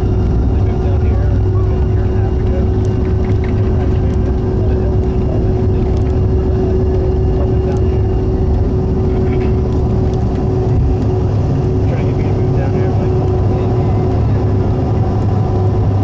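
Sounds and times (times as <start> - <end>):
constant hum: 0.0 - 16.0
jet airliner cabin rumble: 0.0 - 16.0.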